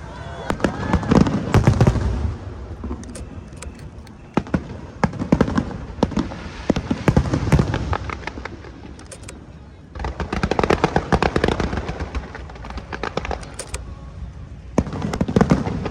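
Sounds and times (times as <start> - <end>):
fireworks bursting with bangs: 0.5 - 13.5.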